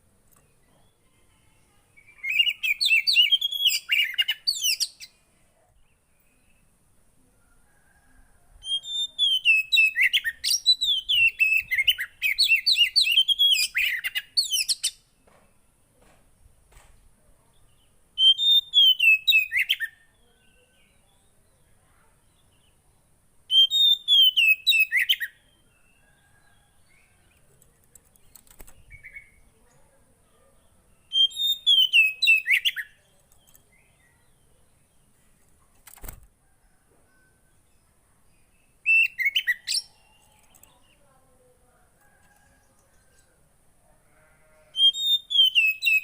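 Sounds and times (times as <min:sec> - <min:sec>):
songbird chirping: 0:00.0 - 0:46.0.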